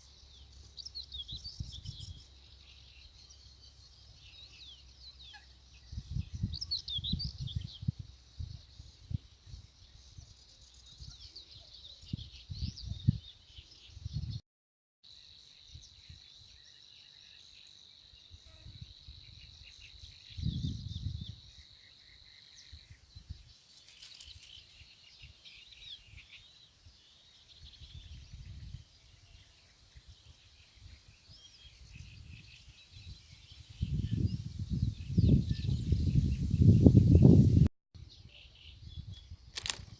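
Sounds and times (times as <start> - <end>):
small birds chirping and trilling: 0.0 - 14.4, 15.1 - 39.9.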